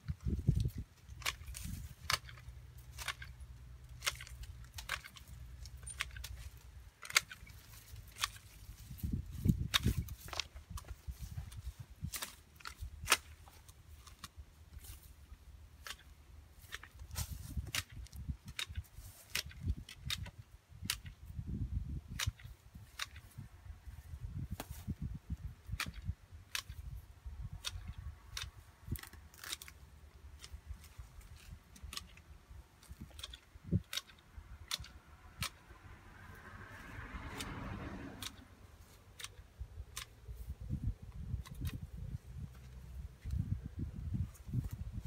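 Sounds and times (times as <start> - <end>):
hedge shears snipping: 0.0 - 21.2, 22.1 - 43.6
hand tool chopping weeds: 0.0 - 21.4, 22.1 - 45.0.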